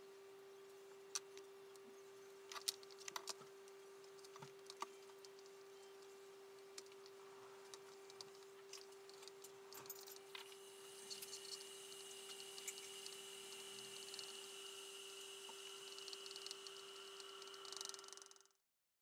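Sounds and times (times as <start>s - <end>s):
faint steady hum: 0.0s - 18.6s.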